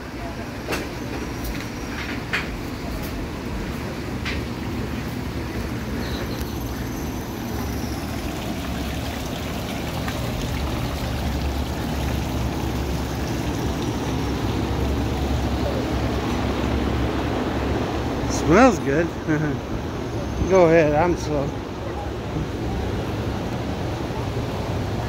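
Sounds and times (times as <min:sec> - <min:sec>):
running water trickling: 0:00.1 - 0:25.0.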